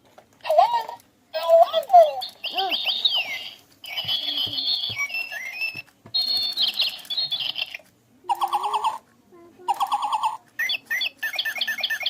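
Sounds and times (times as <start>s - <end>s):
toy bird chirping: 0.5s - 9.0s, 9.7s - 12.0s.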